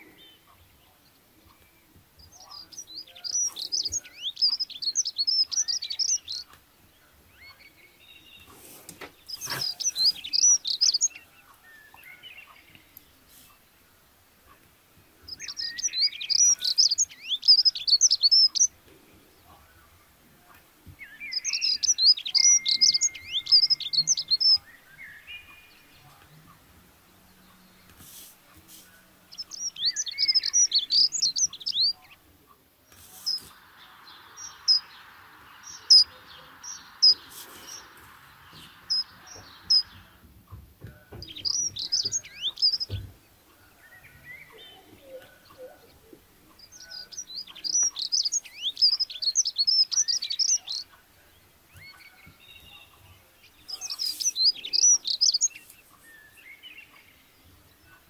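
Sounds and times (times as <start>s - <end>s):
songbird twittering: 0.0s - 13.3s, 15.2s - 18.8s, 21.0s - 28.0s, 29.2s - 32.3s, 32.9s - 40.2s, 40.9s - 58.0s.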